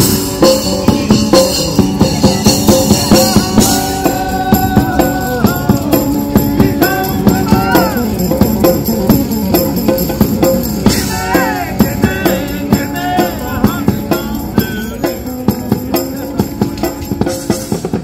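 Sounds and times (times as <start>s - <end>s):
music with drum and tambourine beat: 0.0s - 18.0s.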